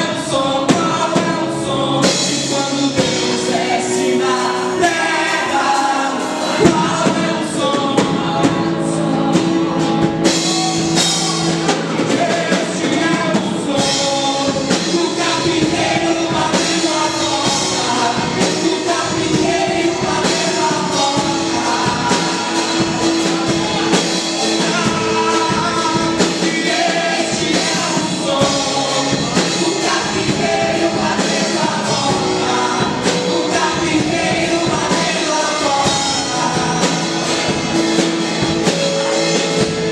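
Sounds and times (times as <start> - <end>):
person singing: 0.0 - 39.9
worship band with drums: 0.0 - 39.9.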